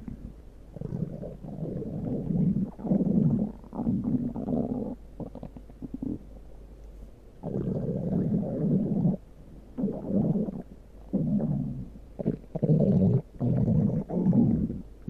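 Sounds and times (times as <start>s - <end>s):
stomach growling: 0.0s - 6.3s, 7.4s - 9.2s, 9.8s - 14.9s.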